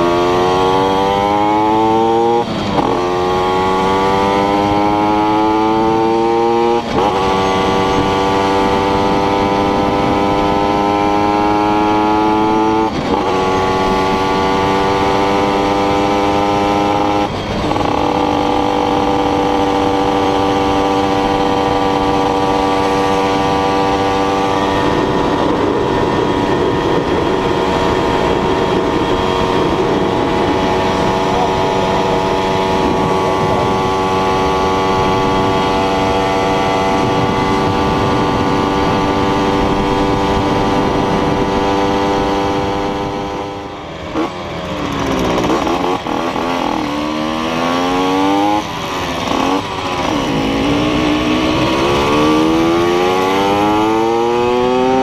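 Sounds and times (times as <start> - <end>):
motorcycle engine running: 0.0 - 55.0
wind over microphone: 0.0 - 55.0.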